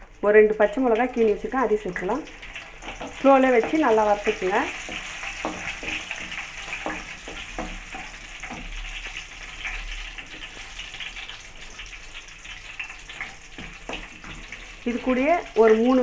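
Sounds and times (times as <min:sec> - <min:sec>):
spices sizzling in hot oil: 0:00.0 - 0:16.0.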